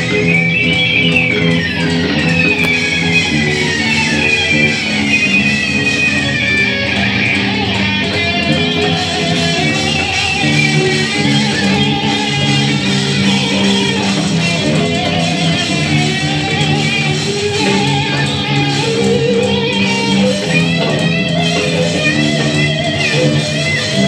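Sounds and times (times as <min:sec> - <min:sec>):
electric guitar playing hard rock: 0:00.0 - 0:24.0.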